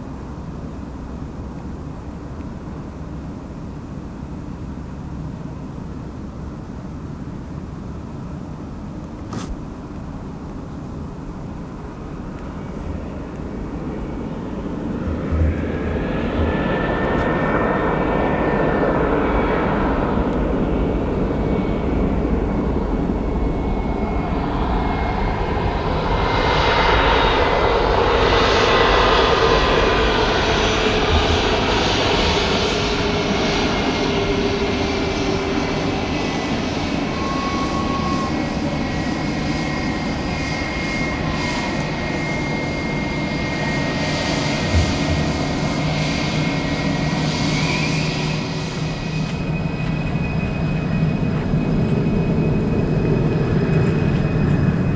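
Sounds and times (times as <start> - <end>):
jet engines rumbling and whining: 0.0 - 54.9.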